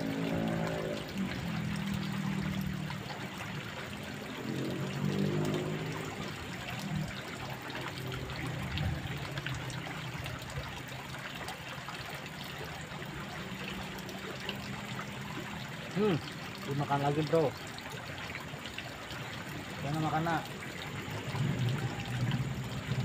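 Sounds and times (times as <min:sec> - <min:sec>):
stream water running: 0:00.0 - 0:23.0.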